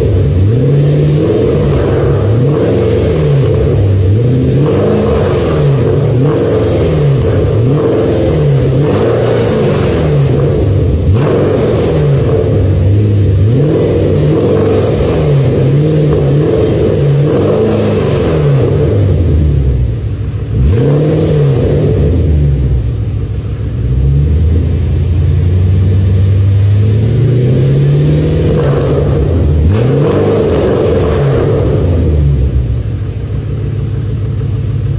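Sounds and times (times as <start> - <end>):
car engine revving: 0.0 - 34.9
exhaust crackles and pops: 0.0 - 34.9.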